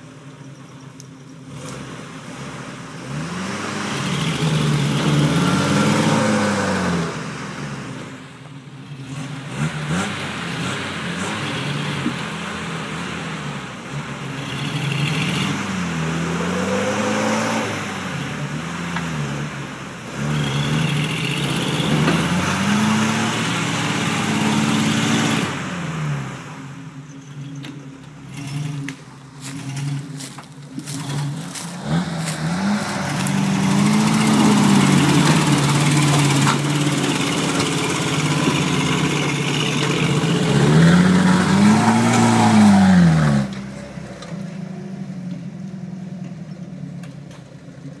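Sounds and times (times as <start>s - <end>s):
engines idling: 0.0s - 48.0s
engines revving under load: 0.0s - 48.0s.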